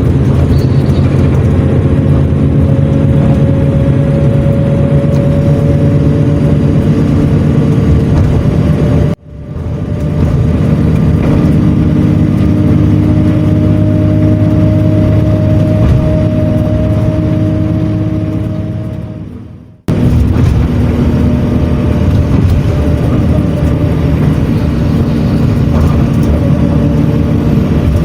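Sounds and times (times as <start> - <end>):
engine drone: 0.0 - 28.0
road noise: 0.0 - 28.0.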